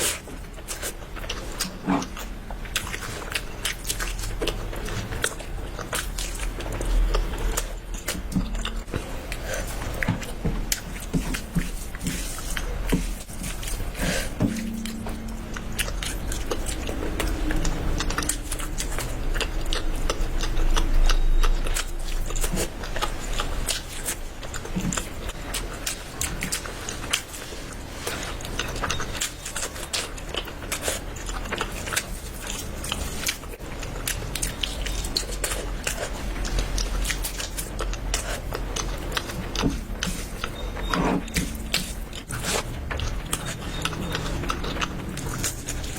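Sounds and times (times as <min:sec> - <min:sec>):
chewing crunchy food: 0:00.0 - 0:45.9.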